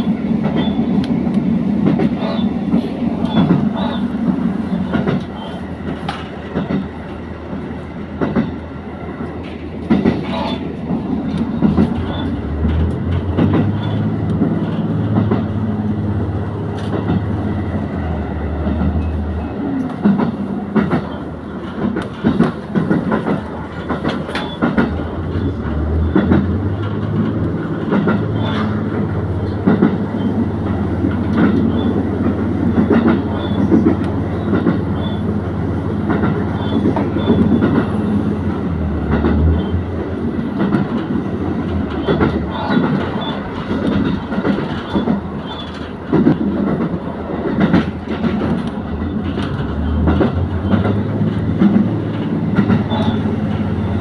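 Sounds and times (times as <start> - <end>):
train wheels clicking over rails: 0.0 - 54.0.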